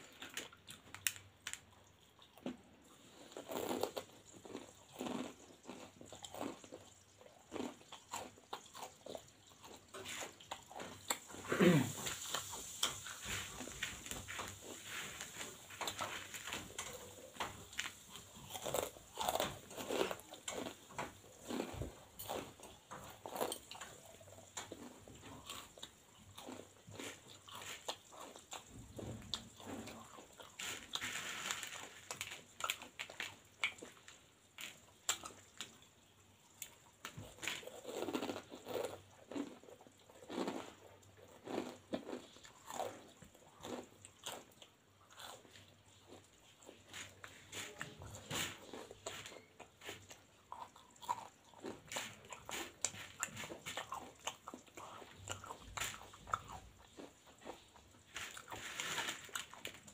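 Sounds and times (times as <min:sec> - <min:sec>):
crunching crisp snack: 0:00.0 - 0:35.9, 0:36.5 - 0:59.9.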